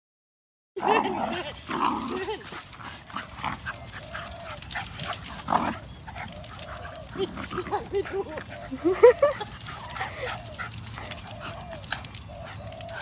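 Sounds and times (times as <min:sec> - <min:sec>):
small dogs yipping and grunting: 0:00.8 - 0:13.0.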